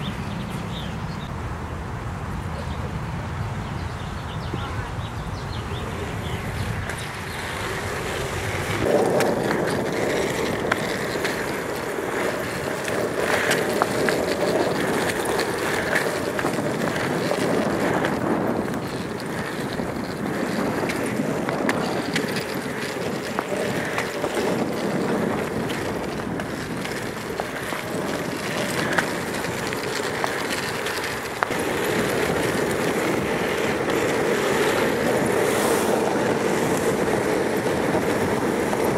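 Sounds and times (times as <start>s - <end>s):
skateboard wheels rolling on asphalt: 0.0s - 38.9s
wind buffeting microphone: 0.0s - 38.9s.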